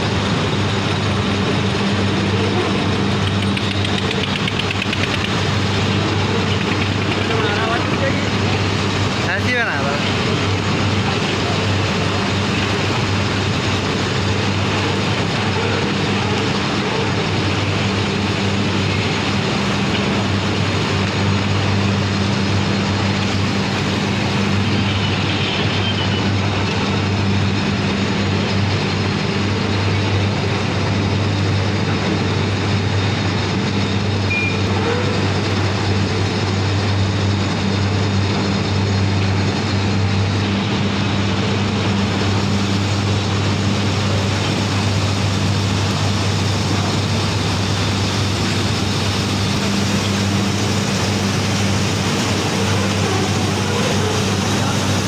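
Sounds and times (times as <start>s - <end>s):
heavy machinery engine drone: 0.0s - 55.0s.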